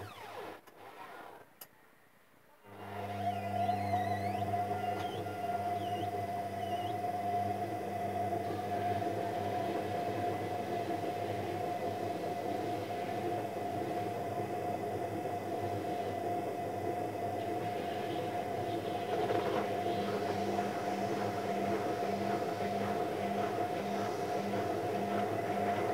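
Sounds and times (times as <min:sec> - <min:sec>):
constant machine whine: 0:02.7 - 0:25.9
washing machine rumbling: 0:02.9 - 0:15.6, 0:16.4 - 0:25.9.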